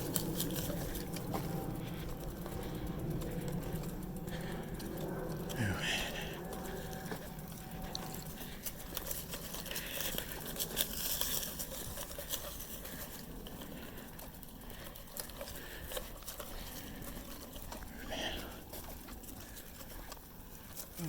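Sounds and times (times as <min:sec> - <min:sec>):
footsteps crunching through dry leaves: 0:00.0 - 0:02.7, 0:05.4 - 0:21.0.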